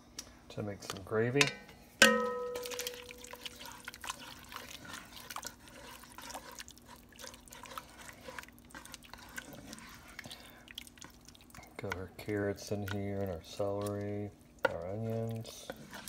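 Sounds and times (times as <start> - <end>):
spoon stirring wet gravy: 0.5 - 16.0.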